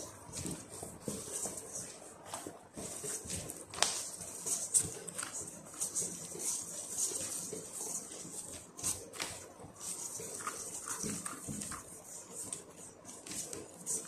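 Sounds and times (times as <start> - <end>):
dough squelching and slapping: 0.0 - 14.0.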